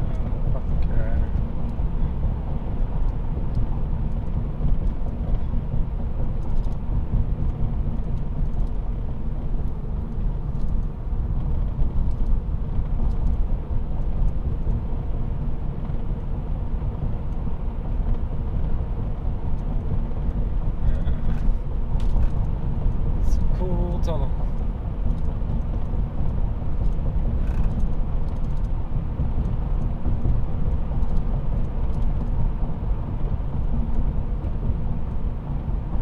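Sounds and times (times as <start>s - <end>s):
car driving through tunnel: 0.0s - 36.0s.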